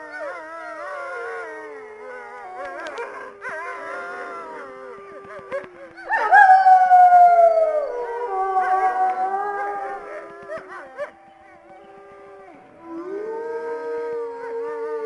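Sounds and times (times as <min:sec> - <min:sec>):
wolves howling: 0:00.0 - 0:15.0.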